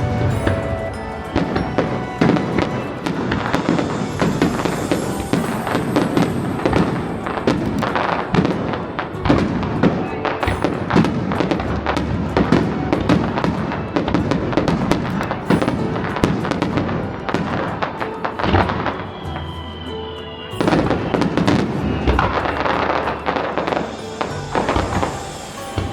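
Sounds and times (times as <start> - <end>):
fireworks bangs and crackles: 0.0 - 19.4, 20.3 - 25.9.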